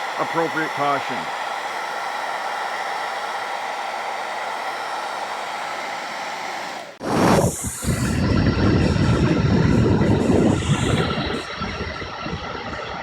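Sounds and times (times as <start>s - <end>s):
hairdryer blowing: 0.0s - 13.0s.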